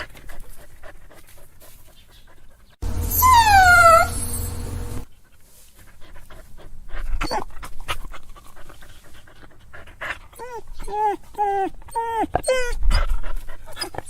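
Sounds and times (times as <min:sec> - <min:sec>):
dog panting and snuffling: 0:00.0 - 0:14.0.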